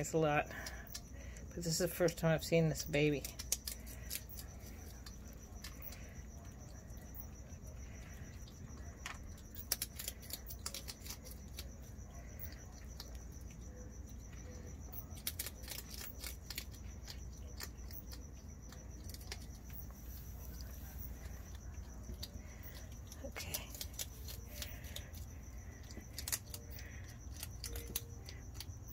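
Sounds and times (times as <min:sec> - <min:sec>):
animals crunching dry food: 0:00.0 - 0:28.9
cricket trilling: 0:00.0 - 0:28.9.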